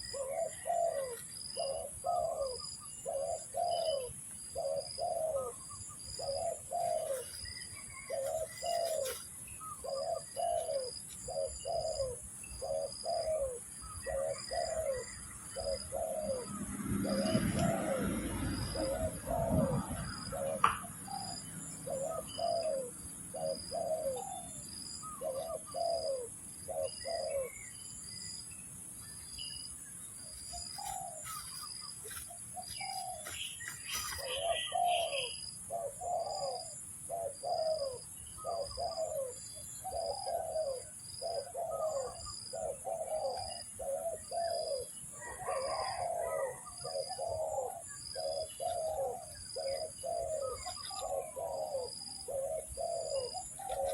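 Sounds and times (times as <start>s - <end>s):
doves cooing: 0.0s - 28.4s, 30.3s - 53.9s.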